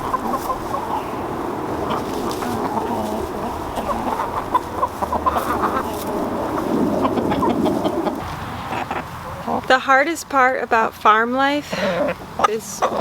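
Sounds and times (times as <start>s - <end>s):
chickens clucking: 0.0s - 9.8s, 11.6s - 13.0s.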